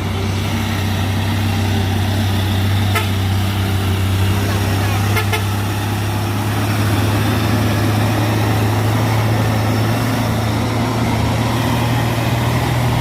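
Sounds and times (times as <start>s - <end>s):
diesel truck engine under load: 0.0s - 13.0s.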